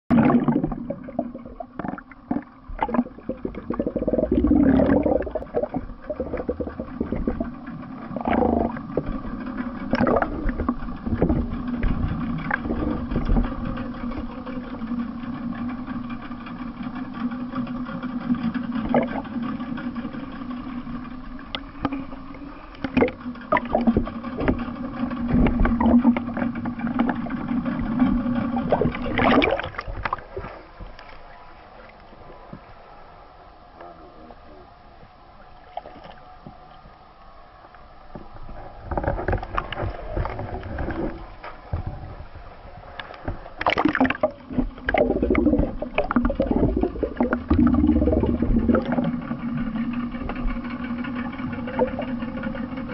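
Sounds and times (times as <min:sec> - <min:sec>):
boat engine hum underwater: 0:00.0 - 0:52.9
water noise: 0:00.0 - 0:52.9.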